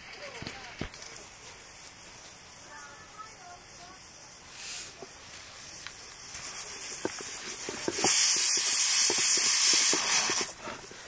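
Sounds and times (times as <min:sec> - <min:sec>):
food crackling in a pan: 0:00.0 - 0:11.0
loud sizzling hiss: 0:00.0 - 0:11.0.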